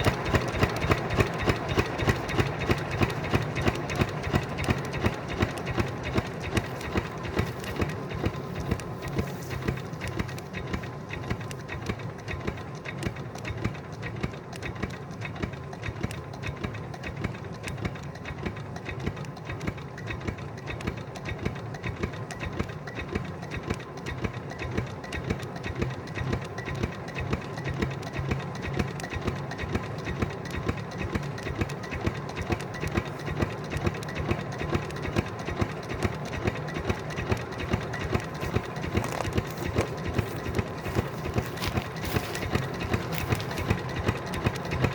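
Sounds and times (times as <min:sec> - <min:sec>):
diesel engine knocking: 0:00.0 - 0:44.9.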